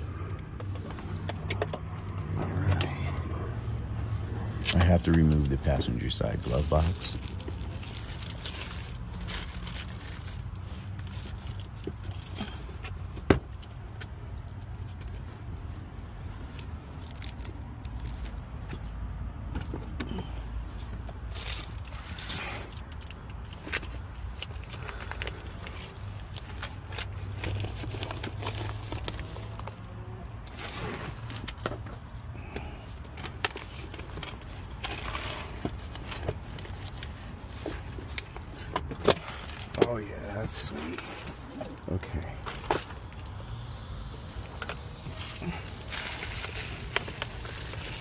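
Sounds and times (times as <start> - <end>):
papers and plastic bags rustling: 0.0 - 18.8, 21.0 - 43.4, 44.2 - 48.0.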